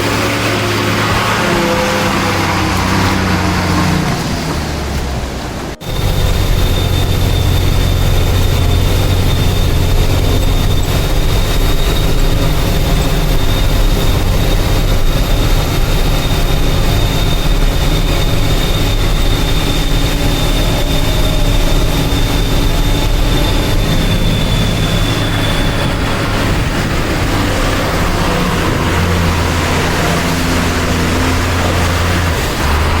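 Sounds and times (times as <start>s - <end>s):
truck engine running: 0.0s - 33.0s
thin high whine: 5.6s - 33.0s.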